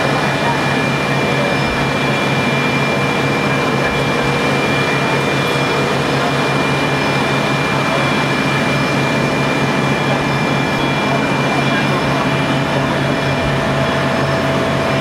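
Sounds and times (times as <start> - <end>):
fire truck engine droning: 0.0 - 15.0.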